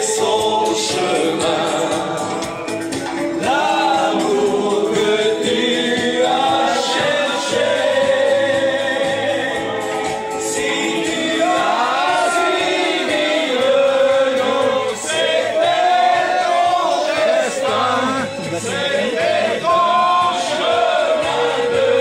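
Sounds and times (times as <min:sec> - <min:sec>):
men singing in chorus: 0:00.0 - 0:22.0.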